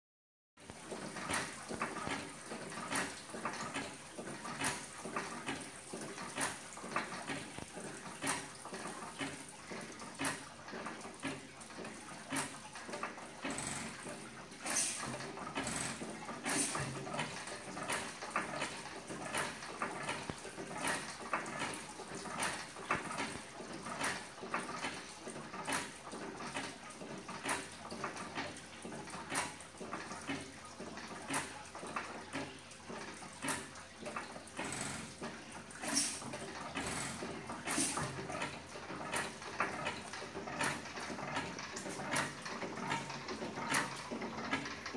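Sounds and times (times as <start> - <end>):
water splashing: 0.6 - 44.9.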